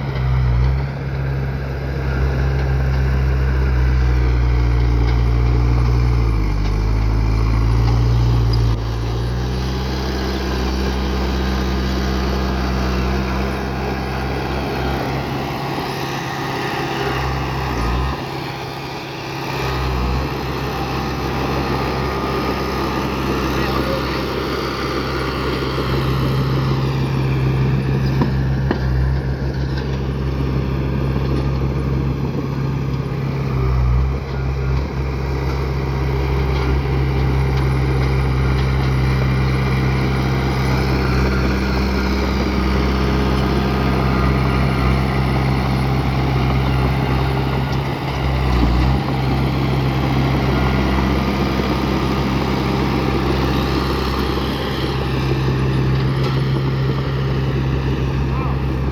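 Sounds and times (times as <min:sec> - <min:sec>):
bulldozer diesel engine drone: 0:00.0 - 0:58.9.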